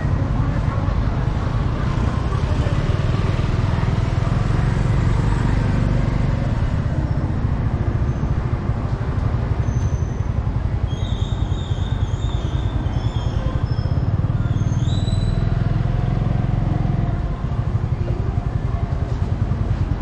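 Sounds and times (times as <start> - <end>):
road traffic rumble: 0.0 - 20.0
wind: 0.0 - 20.0.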